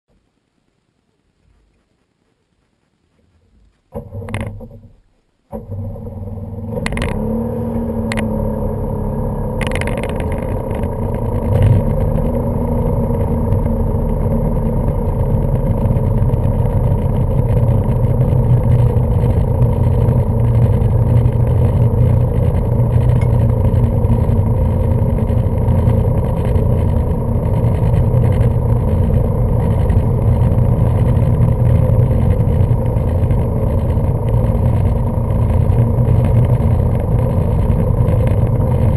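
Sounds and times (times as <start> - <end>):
jet boat engines running: 5.5 - 38.9.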